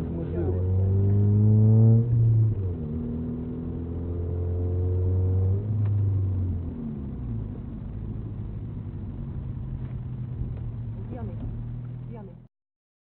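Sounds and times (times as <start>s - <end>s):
car engine accelerating: 0.0s - 12.5s.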